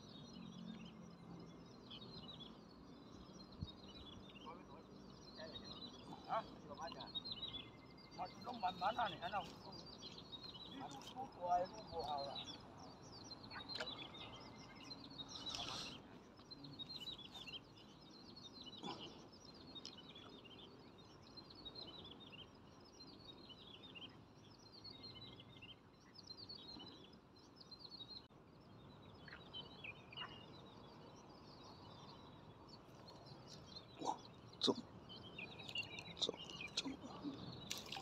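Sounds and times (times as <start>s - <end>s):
faint outdoor background noise: 0.0s - 38.0s
small birds chirping: 0.0s - 38.0s.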